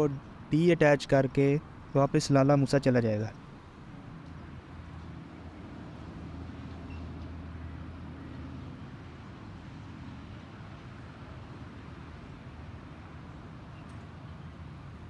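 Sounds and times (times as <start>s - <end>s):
distant diesel locomotive drone: 2.9s - 15.0s.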